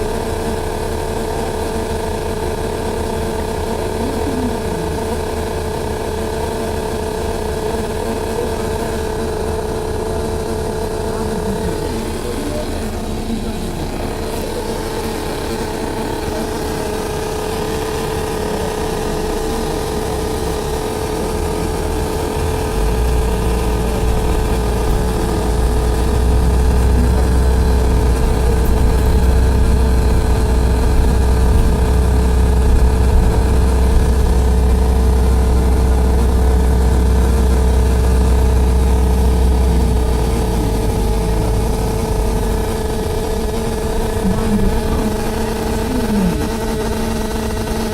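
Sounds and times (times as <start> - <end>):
bus engine rumble: 0.0 - 47.9
steady mid-pitched tone: 8.1 - 47.9.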